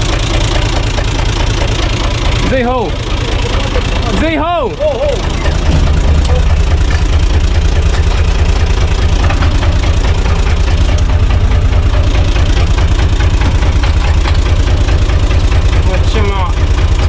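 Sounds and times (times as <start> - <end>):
diesel tractor engine rumbling: 0.0 - 17.0.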